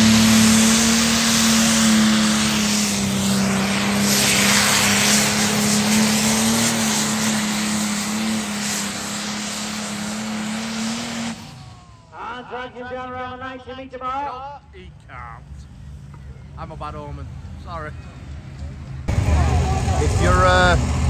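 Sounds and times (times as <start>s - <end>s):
tractor engine howling: 0.0s - 14.0s, 14.7s - 21.0s.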